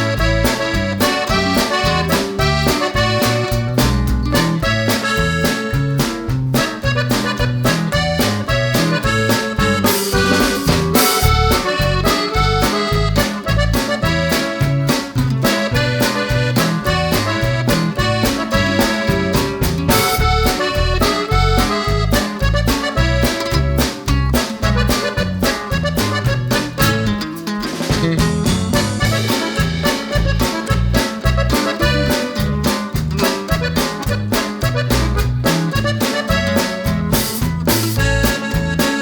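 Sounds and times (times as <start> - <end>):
moving bass line: 0.0 - 27.3, 27.9 - 39.0
bright melody: 0.0 - 39.0
fast beat music: 0.0 - 39.0.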